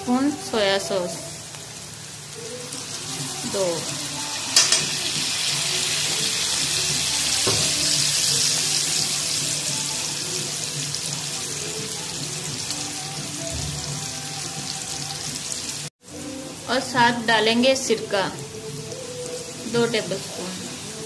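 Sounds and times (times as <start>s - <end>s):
vegetables sizzling in a wok: 0.0s - 21.0s.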